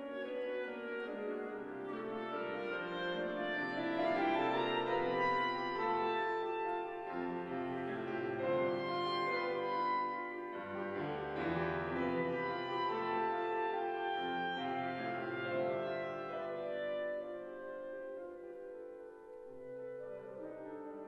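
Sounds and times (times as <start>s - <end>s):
clarinet sustained notes: 0.0s - 18.8s
piano accompaniment: 0.0s - 21.0s.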